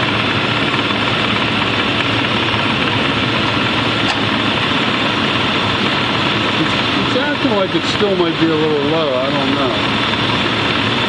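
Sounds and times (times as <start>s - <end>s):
air conditioning running: 0.0s - 11.0s
car engine idling: 0.0s - 11.0s.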